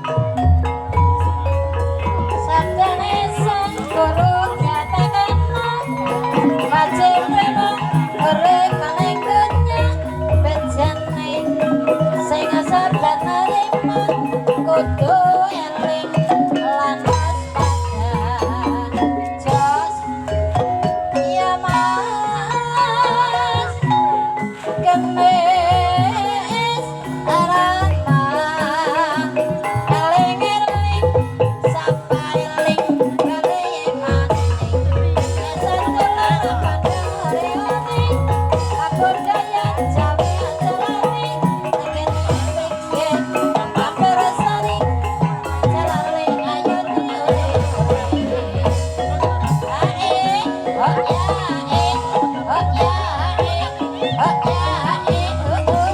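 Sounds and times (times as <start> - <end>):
gamelan music: 0.0 - 55.9
struck pitched percussion melody: 0.0 - 55.9.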